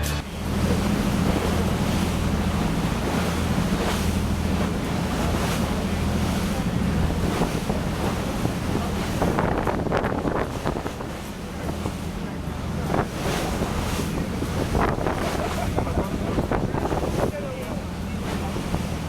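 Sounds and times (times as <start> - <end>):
boat engine hum: 0.0 - 19.0
rushing water: 0.0 - 19.0
wind buffeting the microphone: 0.3 - 19.0.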